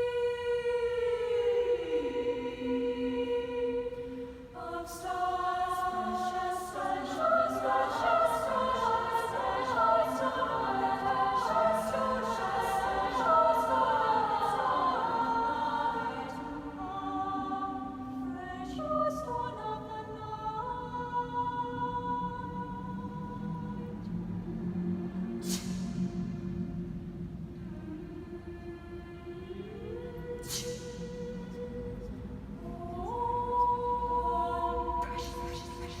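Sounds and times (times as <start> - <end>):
choir singing chords: 0.0 - 36.0.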